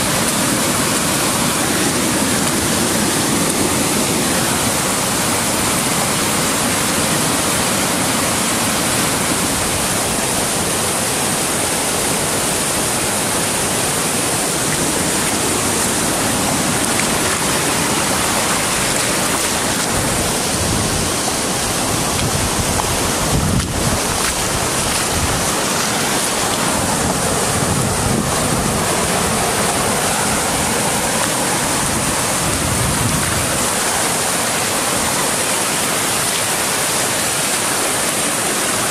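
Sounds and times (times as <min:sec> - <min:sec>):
flooded stream rushing over rocks: 0:00.0 - 0:38.9.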